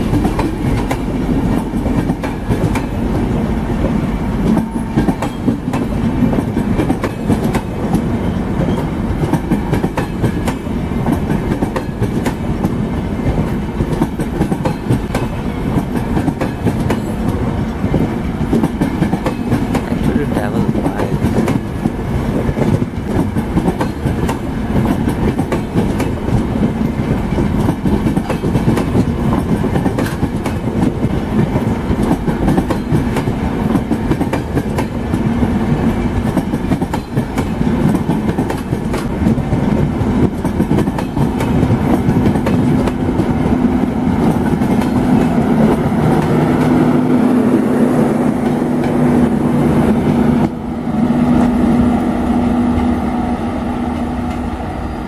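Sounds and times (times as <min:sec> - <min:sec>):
train wheels clattering: 0:00.0 - 0:50.6.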